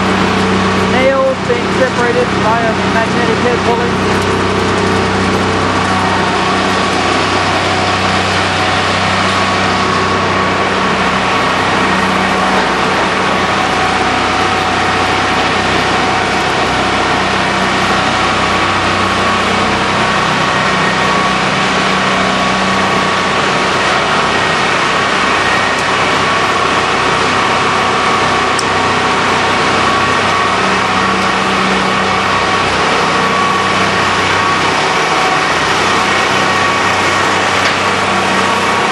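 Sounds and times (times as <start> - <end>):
grinder machine running: 0.0 - 38.9.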